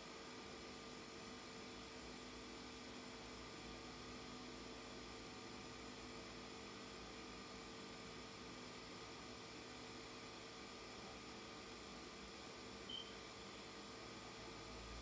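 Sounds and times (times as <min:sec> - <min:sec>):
tape playback hiss and hum: 0:00.1 - 0:15.0.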